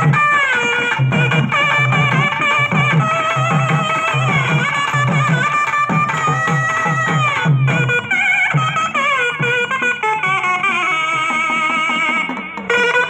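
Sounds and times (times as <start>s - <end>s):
reed pipe melody: 0.0s - 13.0s.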